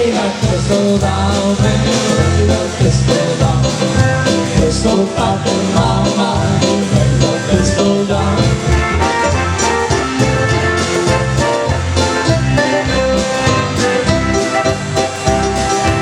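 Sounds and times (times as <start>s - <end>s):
polka band playing: 0.0s - 16.0s.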